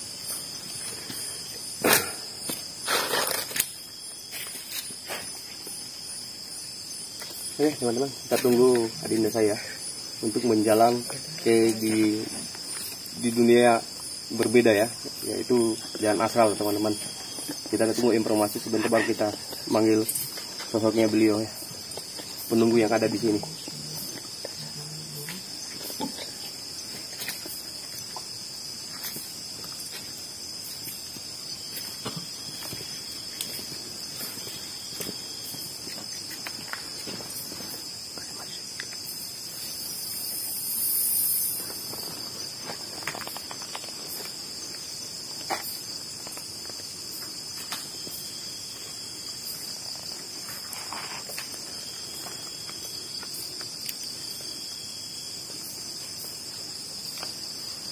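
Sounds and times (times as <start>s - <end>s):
crickets trilling: 0.0s - 57.9s
insect buzz: 0.0s - 57.9s.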